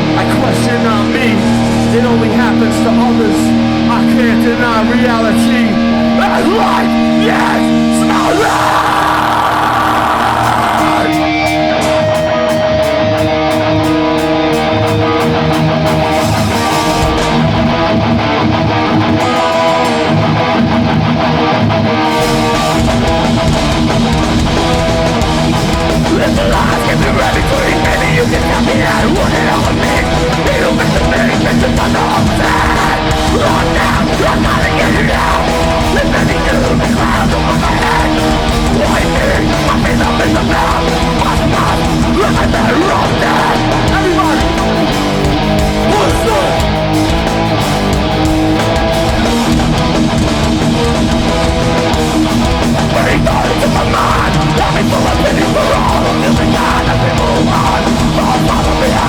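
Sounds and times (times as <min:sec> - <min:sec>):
band low end and drums: 0:00.0 - 0:59.0
distorted heavy guitar riffing: 0:00.0 - 0:59.0.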